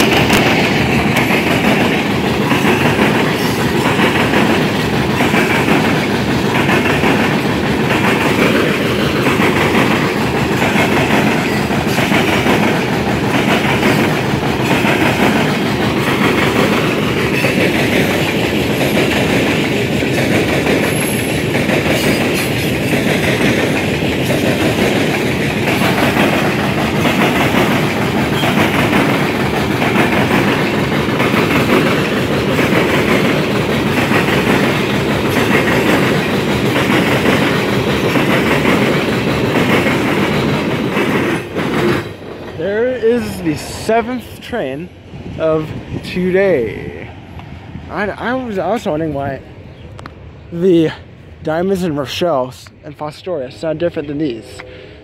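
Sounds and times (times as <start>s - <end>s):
steel wheels clattering over crossing: 0.0s - 44.2s.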